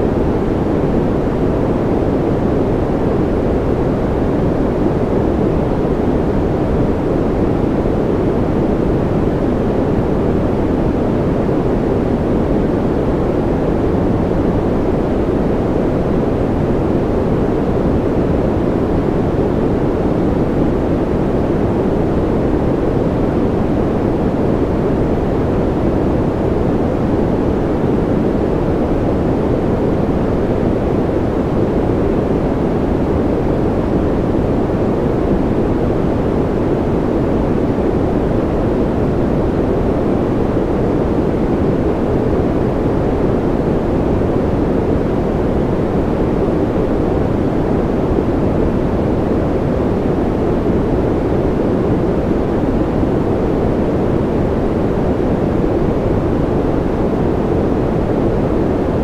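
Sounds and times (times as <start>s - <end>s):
white noise rush: 0.0s - 59.0s.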